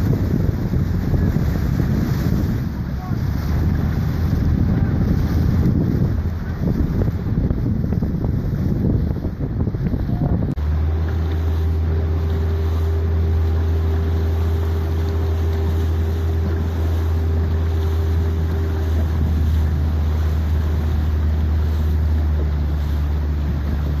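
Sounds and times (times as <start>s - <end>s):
motorboat engine droning: 0.0s - 24.0s
wind and water hiss: 0.0s - 24.0s.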